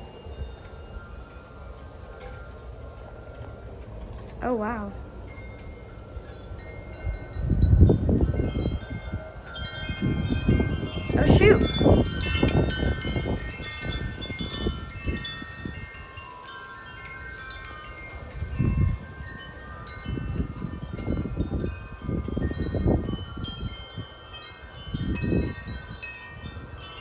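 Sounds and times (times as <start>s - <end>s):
wind buffeting microphone: 0.0s - 27.0s
wind chimes clanging: 0.0s - 27.0s.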